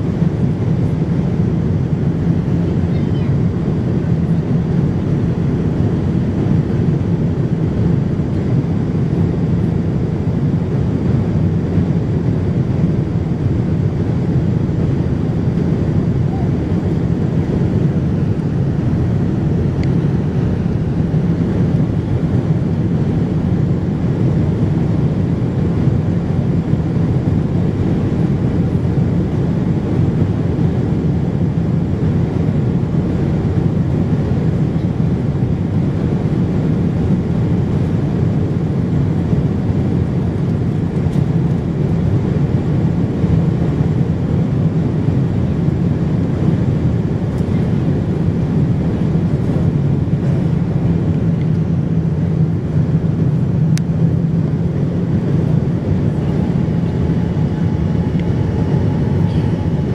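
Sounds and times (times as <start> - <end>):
airplane cabin noise: 0.0 - 59.9.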